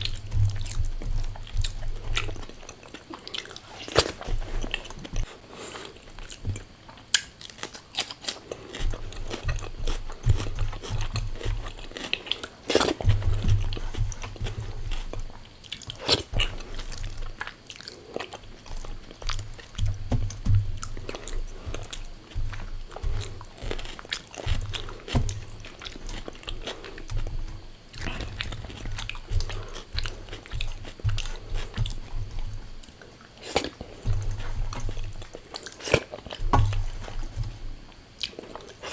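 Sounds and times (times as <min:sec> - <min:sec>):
crunching and chewing food: 0:00.0 - 0:38.9.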